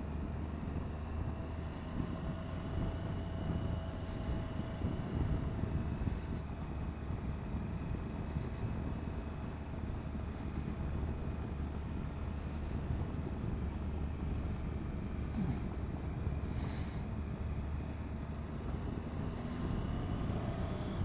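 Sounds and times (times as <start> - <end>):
motorcycle engine drone: 0.0 - 21.0.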